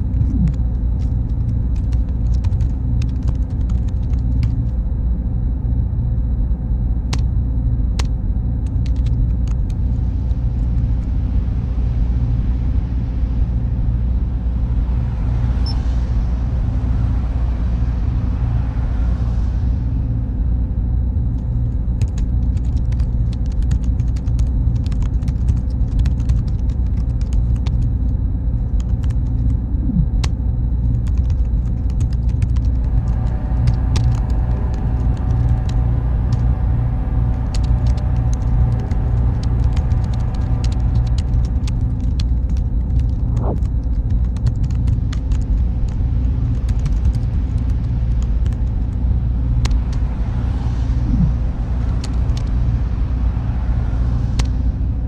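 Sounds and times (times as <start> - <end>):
server cooling hum and rumble: 0.0 - 55.0.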